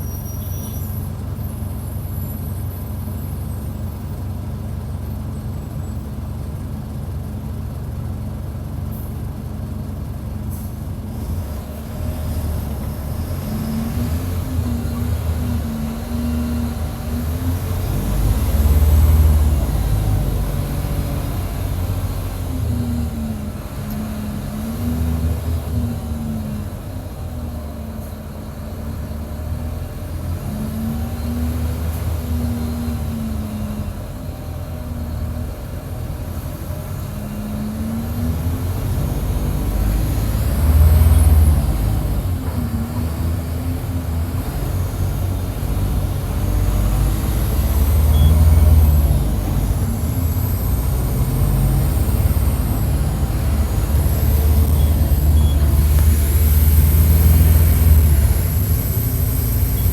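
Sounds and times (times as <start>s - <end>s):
bus diesel engine revving: 7.7s - 59.9s.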